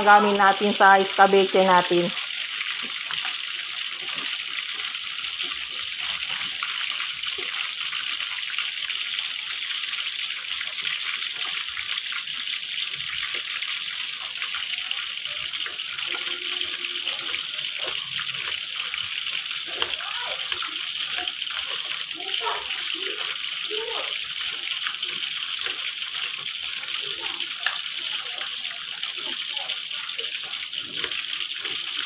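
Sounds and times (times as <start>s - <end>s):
fish frying in hot oil: 0.0s - 32.0s.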